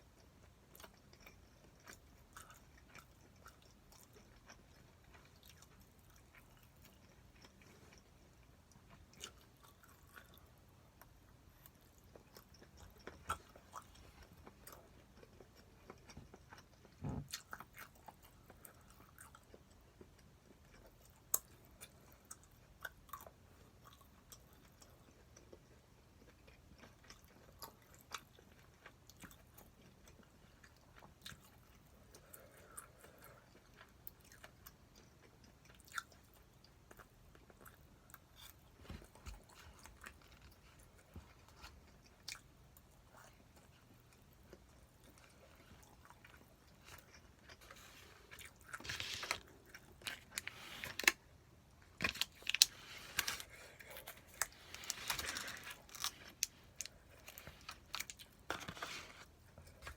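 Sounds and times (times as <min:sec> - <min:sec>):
faint chewing: 0:00.0 - 0:59.9.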